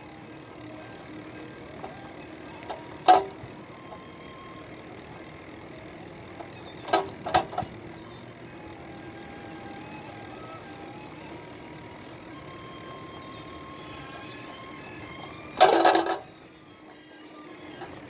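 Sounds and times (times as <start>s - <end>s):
bike road noise: 0.0s - 18.0s.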